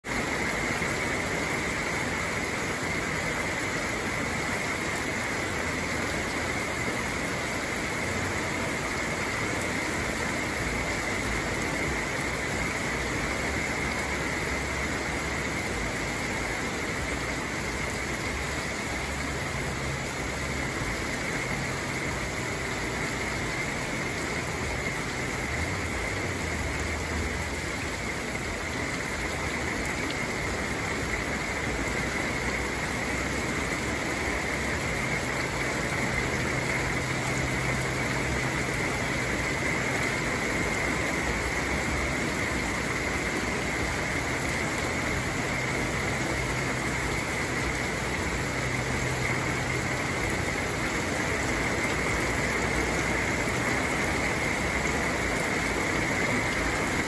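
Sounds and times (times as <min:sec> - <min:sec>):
heavy rain on leaves: 0:00.0 - 0:57.0.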